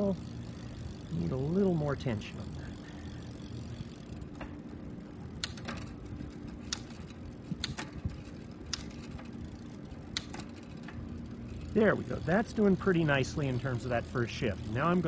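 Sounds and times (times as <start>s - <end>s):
bicycle chain whirring over cogs: 0.0s - 15.0s.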